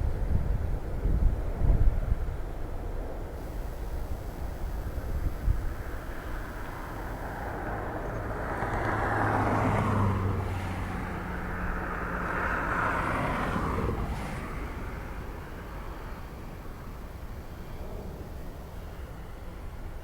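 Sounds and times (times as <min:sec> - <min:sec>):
low engine hum: 0:03.0 - 0:20.0
passing vehicle: 0:03.4 - 0:20.0.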